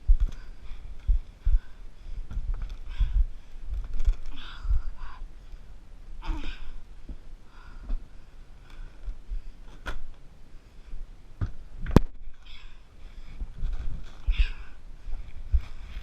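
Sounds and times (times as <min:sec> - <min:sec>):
person breathing hard: 0:00.0 - 0:09.8, 0:12.3 - 0:16.0.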